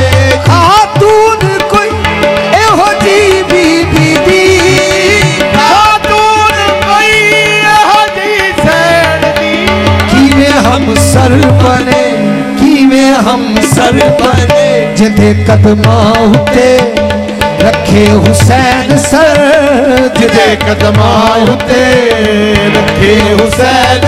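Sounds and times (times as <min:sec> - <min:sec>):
harmonium: 0:00.0 - 0:24.0
tabla beat: 0:00.0 - 0:24.0.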